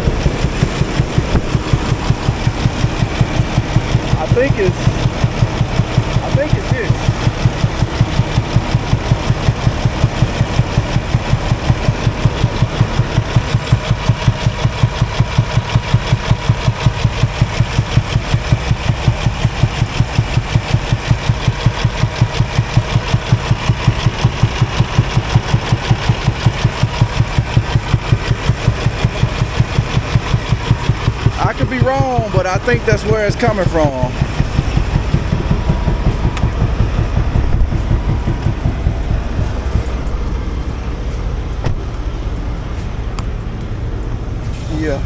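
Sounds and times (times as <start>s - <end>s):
rapid thumping from engine bay: 0.0s - 44.6s
truck diesel engine idling: 0.0s - 45.0s.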